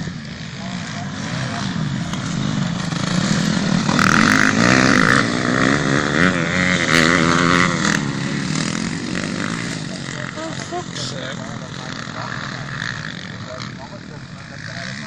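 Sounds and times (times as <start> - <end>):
motocross bikes racing past: 0.0 - 15.0.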